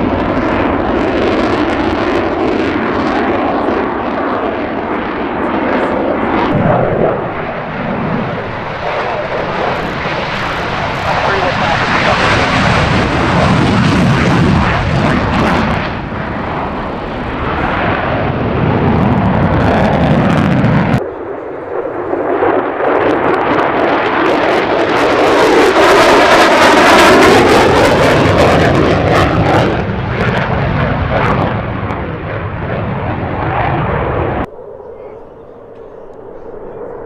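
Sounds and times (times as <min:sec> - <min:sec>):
fighter jet engines thundering: 0:00.0 - 0:37.0
jet passing whoosh: 0:00.0 - 0:37.0.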